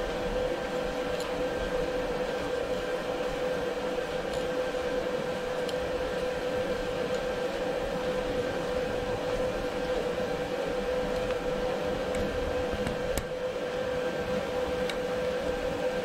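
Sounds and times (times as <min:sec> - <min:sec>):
workshop machine hum: 0:00.0 - 0:16.0.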